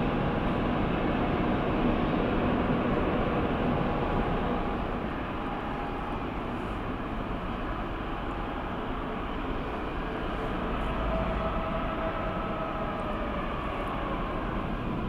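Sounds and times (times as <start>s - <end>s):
faint engine whine: 0.0s - 15.0s
jet engines rushing hum: 0.0s - 15.0s.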